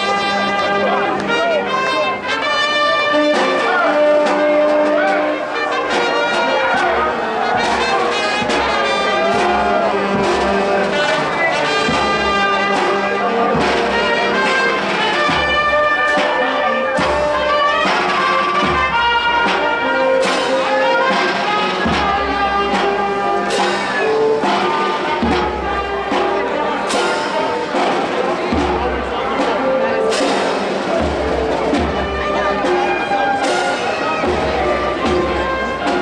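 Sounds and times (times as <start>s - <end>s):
brass band playing: 0.0s - 36.0s.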